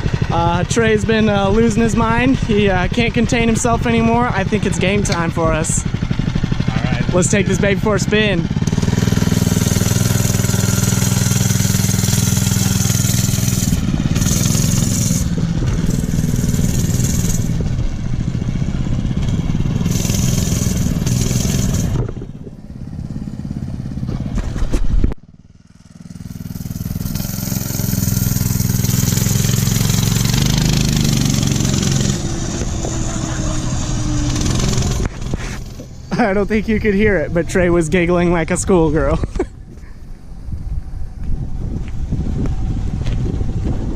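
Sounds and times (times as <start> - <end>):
minibike engine running: 0.0 - 43.9.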